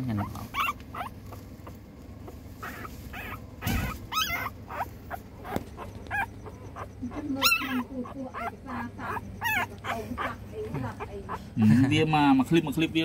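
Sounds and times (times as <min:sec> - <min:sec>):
puppy whimpering: 0:00.0 - 0:11.6.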